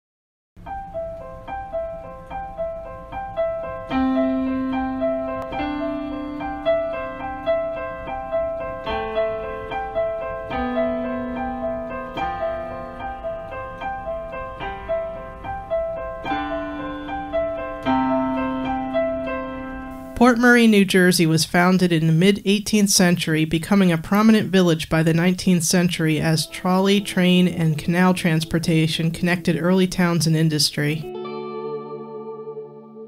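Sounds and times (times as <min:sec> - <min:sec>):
piano-like keyboard music: 0:00.6 - 0:33.0.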